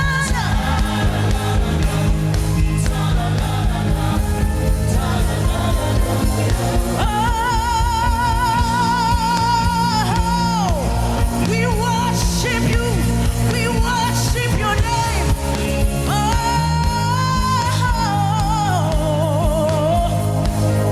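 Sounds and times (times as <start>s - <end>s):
gospel band accompaniment: 0.0s - 20.9s
solo singer with vibrato: 0.0s - 20.9s.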